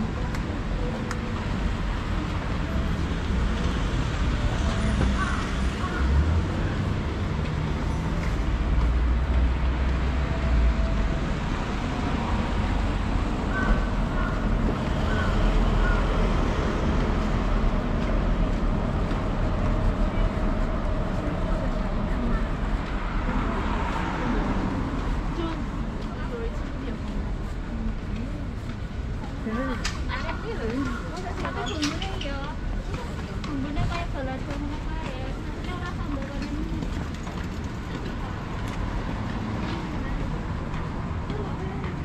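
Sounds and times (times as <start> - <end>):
cars and trucks passing: 0.0 - 42.0
low traffic rumble: 0.0 - 42.0.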